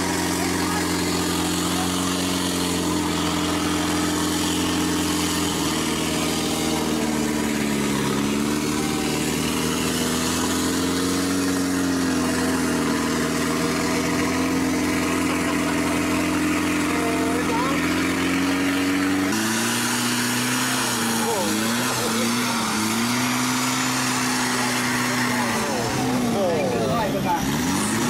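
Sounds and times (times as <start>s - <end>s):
buggy engine idling: 0.0s - 28.0s.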